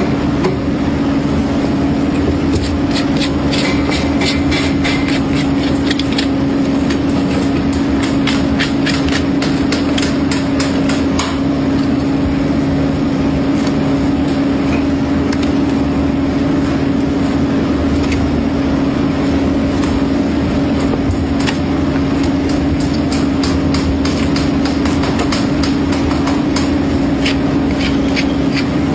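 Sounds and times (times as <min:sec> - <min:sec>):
steady machine hum: 0:00.0 - 0:28.9.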